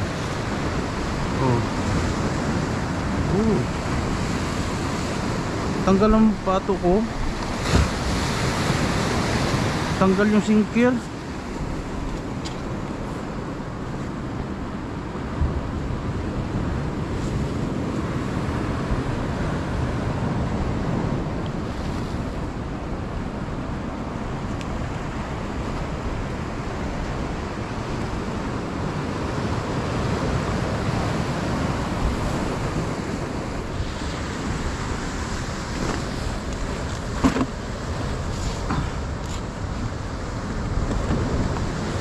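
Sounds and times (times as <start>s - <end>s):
ocean surf on a beach: 0.0s - 42.0s
wind buffeting microphone: 0.0s - 42.0s.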